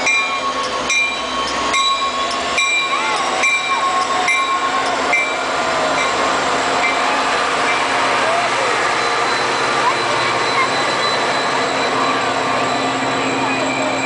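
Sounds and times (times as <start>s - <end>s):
diesel locomotive engines running: 0.0s - 14.0s.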